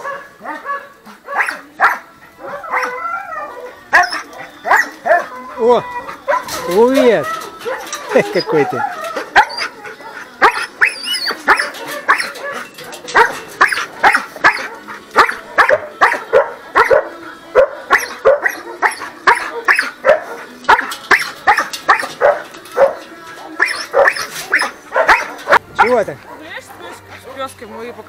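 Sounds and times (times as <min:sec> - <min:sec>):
dogs barking: 0:00.0 - 0:28.0.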